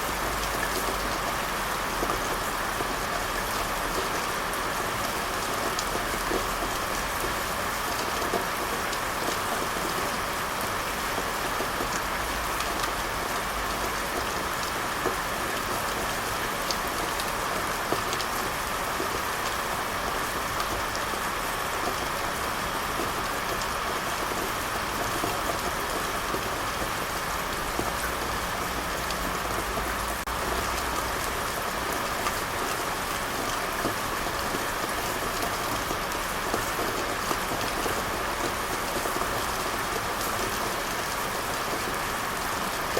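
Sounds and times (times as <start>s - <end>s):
rain pattering on a surface: 0.0s - 42.9s.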